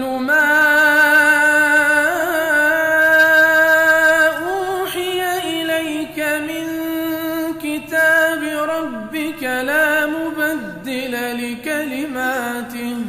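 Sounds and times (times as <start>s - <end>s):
person chanting melodically: 0.0s - 13.0s.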